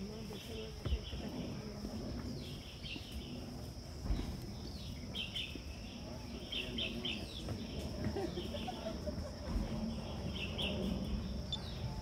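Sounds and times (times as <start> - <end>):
bird chirps: 2.3 - 12.0.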